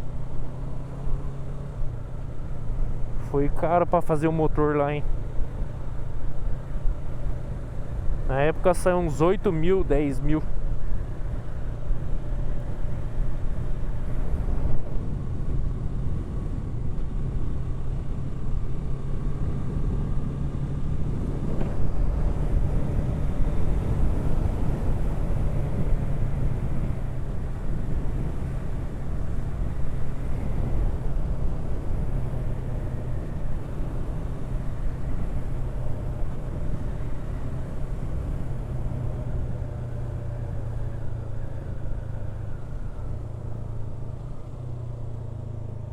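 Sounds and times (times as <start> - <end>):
motorcycle engine running: 0.0 - 45.9
road and wind rumble: 0.0 - 45.9.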